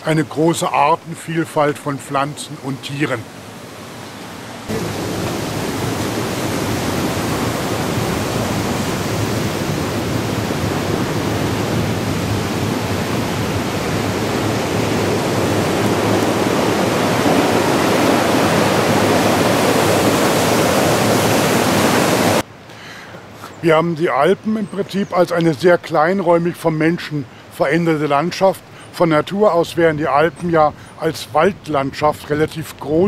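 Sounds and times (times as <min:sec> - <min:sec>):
water rushing through sluice gate: 0:00.0 - 0:22.5, 0:23.2 - 0:33.0.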